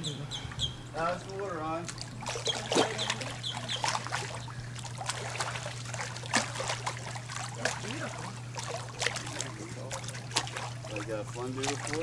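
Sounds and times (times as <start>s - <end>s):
steady low hum: 0.0s - 12.0s
pool water splashing: 0.8s - 12.0s.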